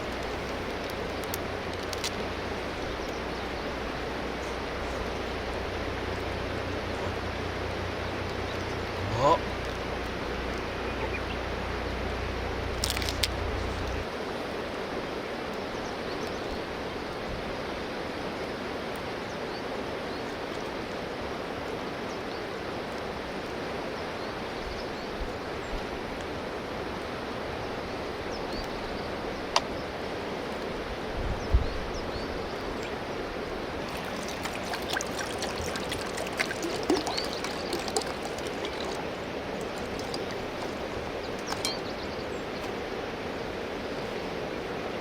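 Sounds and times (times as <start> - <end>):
flowing river water: 0.0 - 45.0.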